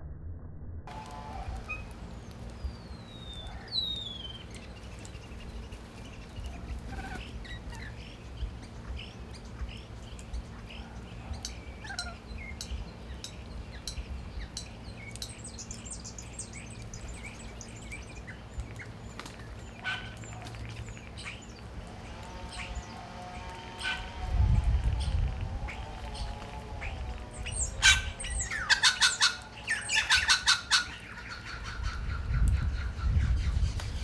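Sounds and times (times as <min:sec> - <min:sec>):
steady low hum: 0:00.8 - 0:34.0
birds chirping and calling: 0:00.9 - 0:34.0.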